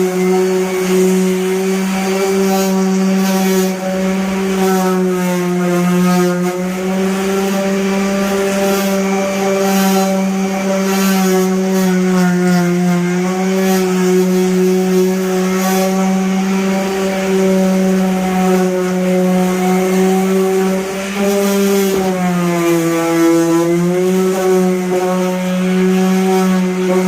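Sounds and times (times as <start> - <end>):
power sander sanding paint: 0.0 - 27.0.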